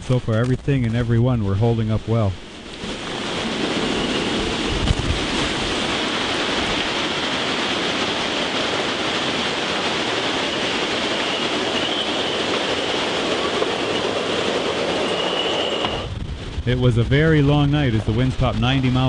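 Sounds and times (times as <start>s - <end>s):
heavy rain: 0.0s - 19.0s
strong wind: 0.0s - 19.0s.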